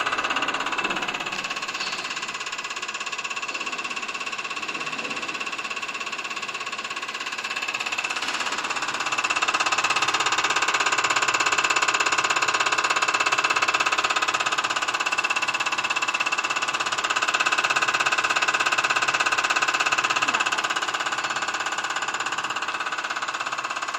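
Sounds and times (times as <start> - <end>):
injector rapid mechanical ticking: 0.0 - 23.9
pump humming: 0.0 - 23.9.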